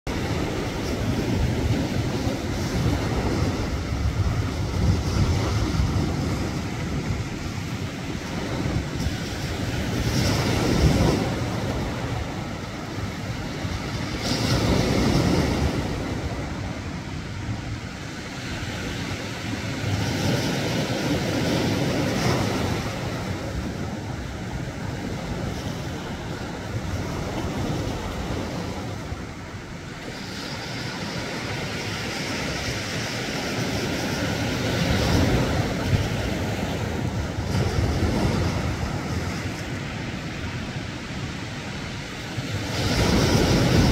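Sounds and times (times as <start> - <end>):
waves washing around rocks: 0.1 - 43.9.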